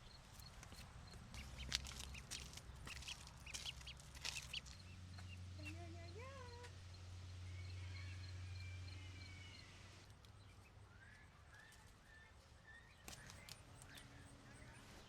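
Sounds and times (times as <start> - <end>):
faint bird chirps: 0.0 - 15.0
low steady hum: 0.0 - 15.0.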